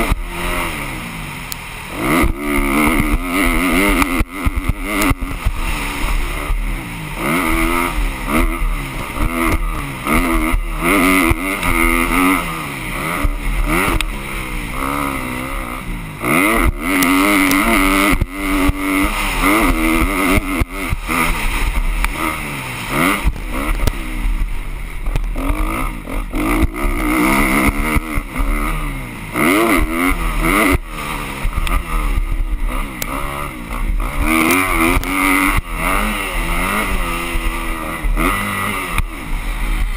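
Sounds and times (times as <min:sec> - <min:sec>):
motocross bikes revving: 0:00.0 - 0:39.9.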